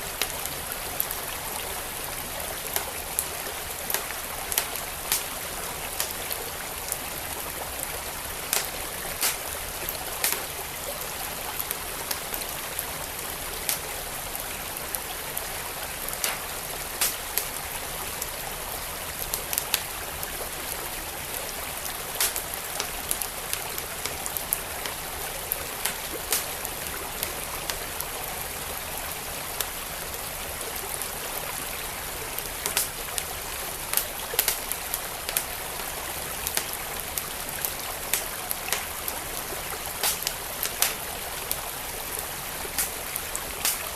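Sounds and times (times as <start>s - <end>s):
creek water rushing: 0.0s - 43.9s
wood fire crackling and popping: 0.1s - 43.9s.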